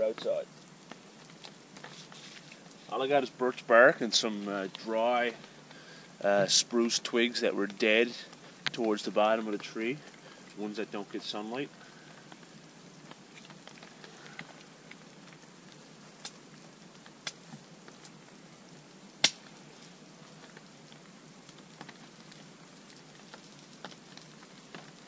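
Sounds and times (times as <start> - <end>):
kindling fire crackling and popping: 0.0 - 25.0
loud snap of fire: 0.0 - 25.0.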